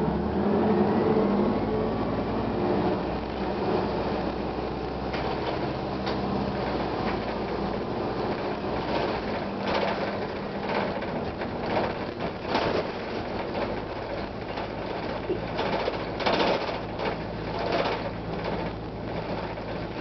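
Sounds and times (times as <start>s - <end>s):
bus diesel engine droning: 0.0s - 20.0s
bus interior rattling: 0.0s - 20.0s.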